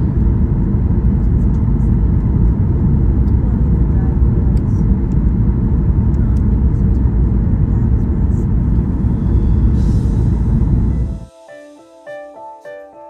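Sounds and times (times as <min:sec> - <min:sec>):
airliner cabin rumble: 0:00.0 - 0:11.3.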